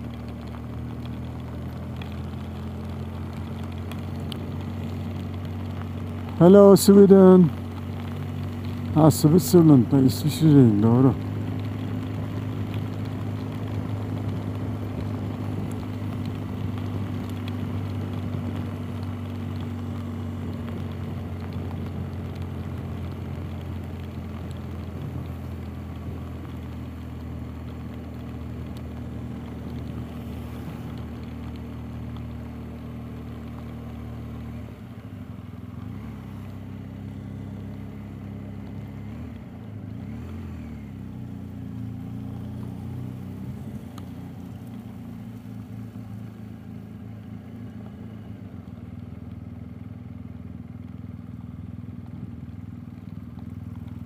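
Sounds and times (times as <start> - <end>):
wind rushing on camera: 0.0 - 47.1
motorcycle engine cruising: 0.0 - 54.0.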